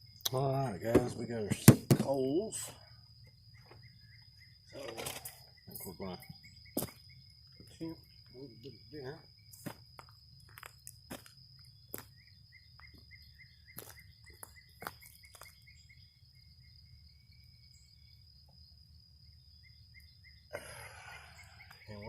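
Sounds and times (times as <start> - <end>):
high-pitched insect trill: 0.0 - 22.0
repeated insect chirp: 0.0 - 22.0.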